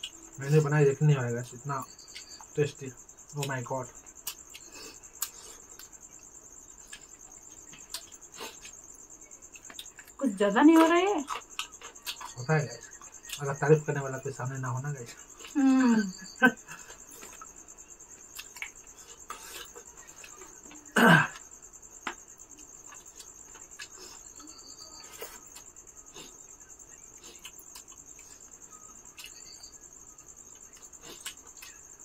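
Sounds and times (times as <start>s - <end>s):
crickets chirping: 0.0s - 32.0s
people eating by hand: 0.0s - 32.0s.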